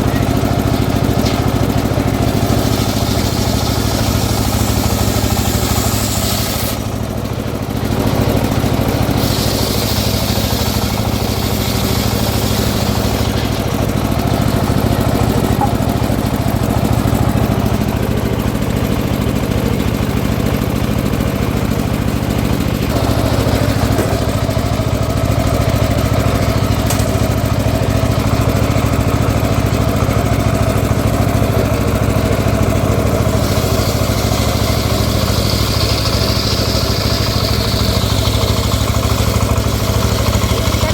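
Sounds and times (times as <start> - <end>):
engine running sawmill: 0.0 - 40.9.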